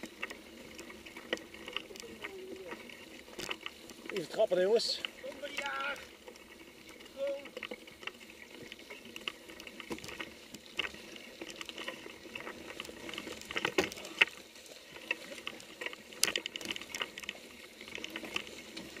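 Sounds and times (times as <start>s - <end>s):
bike rattling and knocking: 0.0s - 19.0s.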